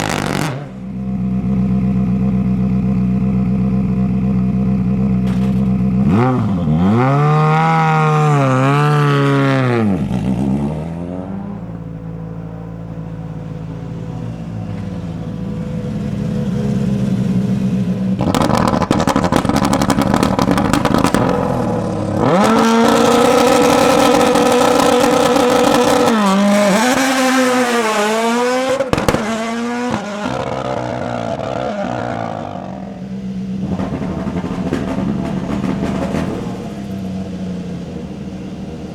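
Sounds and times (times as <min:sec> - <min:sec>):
engine rapid crackling: 0:00.0 - 0:00.8, 0:01.5 - 0:38.9
car engine idling and revving: 0:00.0 - 0:38.9.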